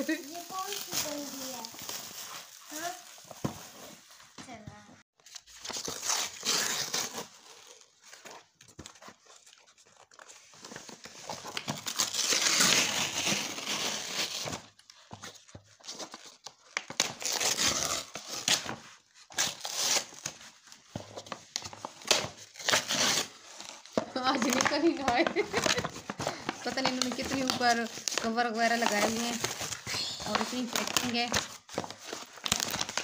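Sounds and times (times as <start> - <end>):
packaging being torn and crinkling: 0.0 - 3.3, 5.2 - 8.6, 11.0 - 15.0, 15.9 - 20.4, 21.4 - 33.0.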